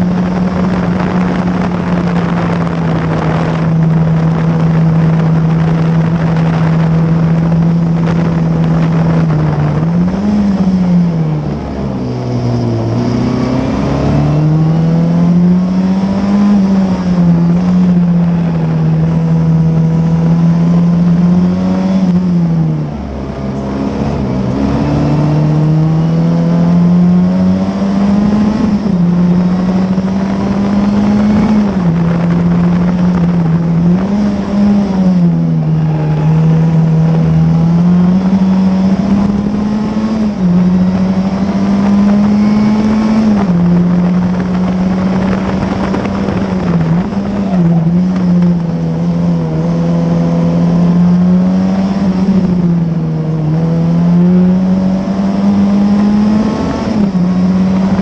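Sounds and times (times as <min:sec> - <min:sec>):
racing car engine shifting gears: 0:00.0 - 0:58.0.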